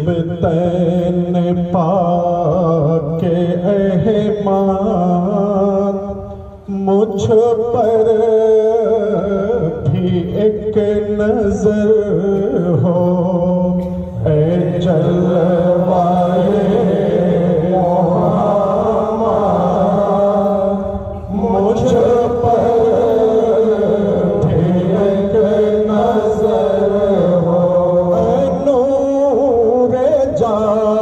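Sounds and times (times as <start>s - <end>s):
man chanting through loudspeaker: 0.0s - 31.0s.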